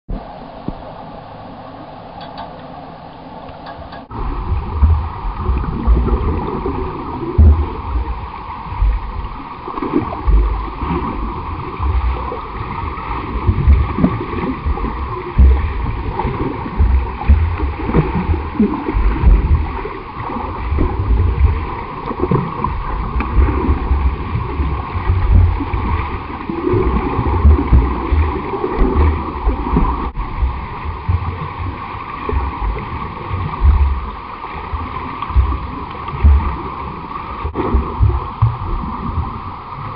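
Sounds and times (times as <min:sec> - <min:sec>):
steady hum: 0:00.1 - 0:39.9.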